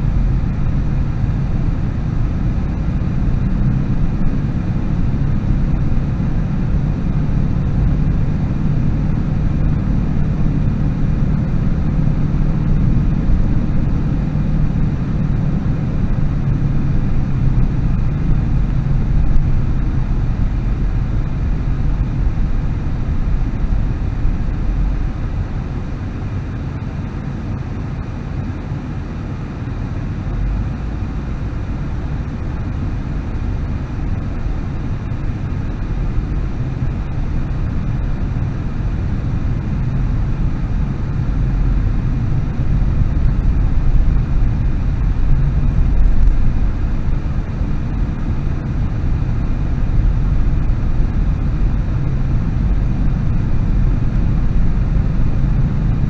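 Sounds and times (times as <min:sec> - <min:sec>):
car engine and tyre noise: 0:00.0 - 0:56.0.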